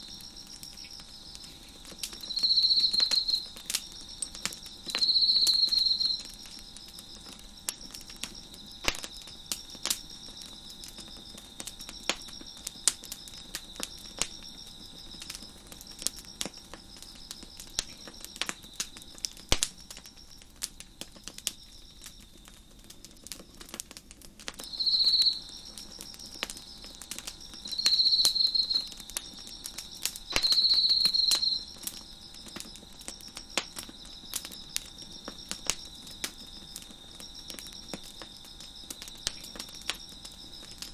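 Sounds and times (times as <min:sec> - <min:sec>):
nearby cricket chirping loudly: 0:00.0 - 0:22.4, 0:24.6 - 0:40.9
crickets chirping: 0:00.0 - 0:40.9
fire crackling and popping: 0:00.0 - 0:40.9.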